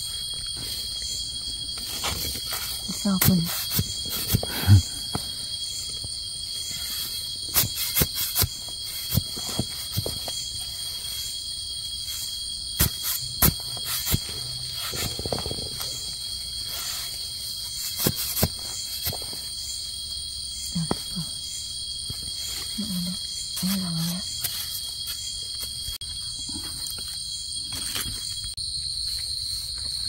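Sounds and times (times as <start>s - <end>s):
forest insects droning: 0.0s - 30.0s.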